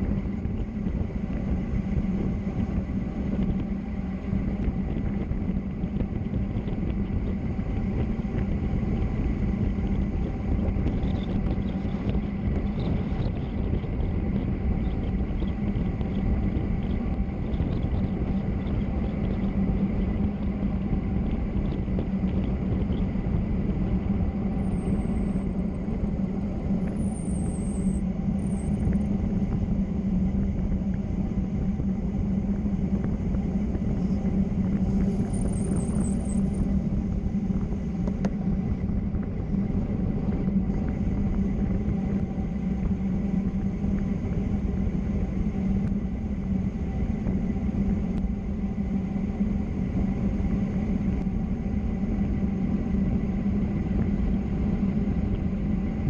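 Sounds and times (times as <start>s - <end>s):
road and wind rumble: 0.0s - 56.0s.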